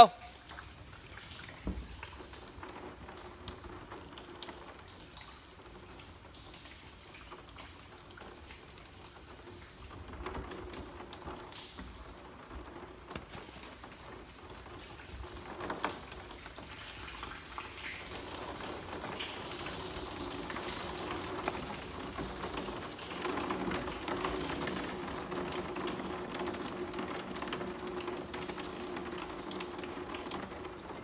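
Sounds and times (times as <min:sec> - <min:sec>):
water trickling into plastic tank: 0:00.0 - 0:31.0.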